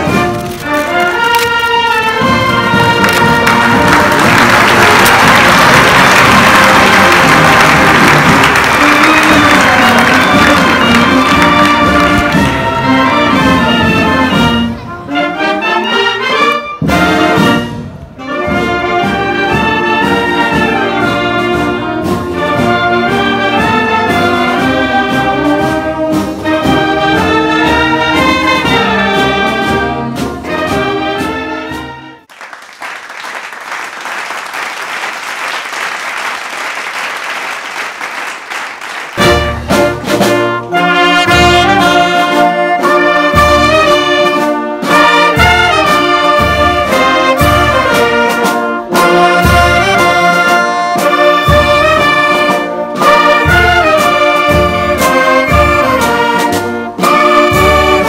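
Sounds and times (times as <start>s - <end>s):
brass band music: 0.0s - 58.0s.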